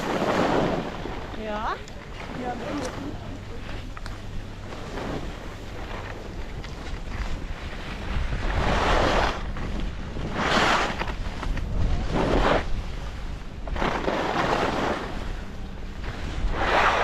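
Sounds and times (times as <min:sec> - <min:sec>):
wind noise on microphone: 0:00.0 - 0:01.8, 0:02.4 - 0:17.0
skis swishing on snow: 0:00.0 - 0:13.1, 0:13.7 - 0:15.3, 0:16.0 - 0:17.0.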